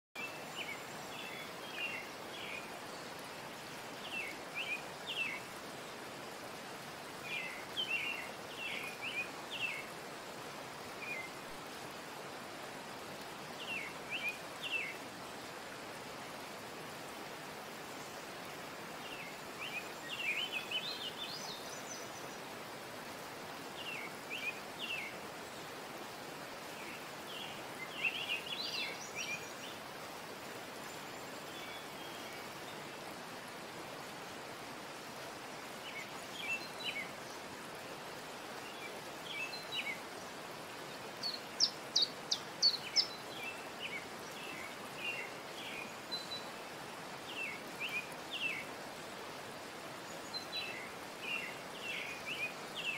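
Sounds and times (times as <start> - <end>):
steady hiss: 0.2 - 52.9.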